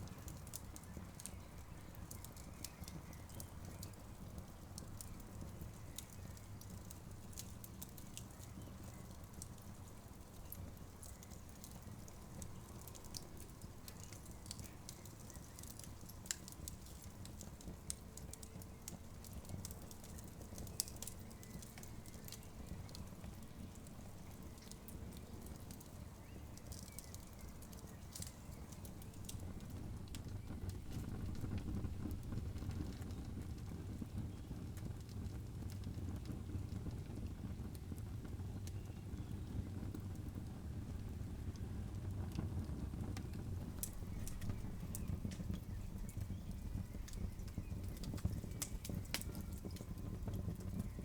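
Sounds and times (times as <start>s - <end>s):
campfire crackling and popping: 0.0s - 51.0s.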